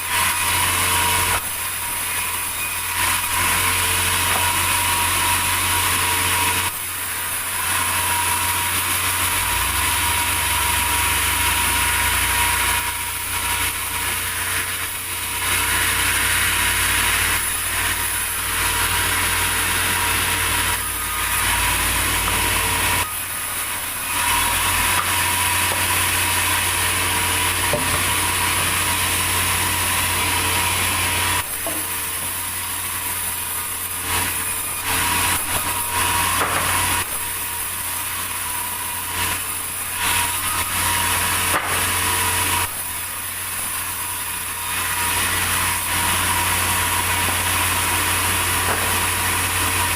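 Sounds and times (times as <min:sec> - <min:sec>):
sawmill saw cutting log: 0:00.0 - 0:49.9.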